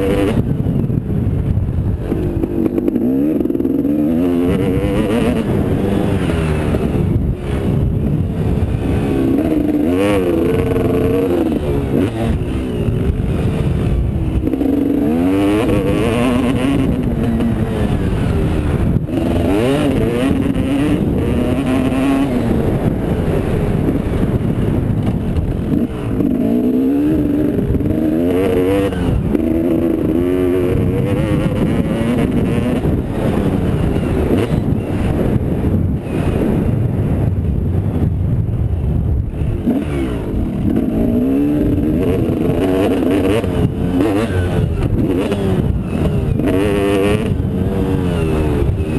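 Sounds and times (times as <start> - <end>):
motocross engine revving: 1.9 - 37.2, 38.8 - 48.9.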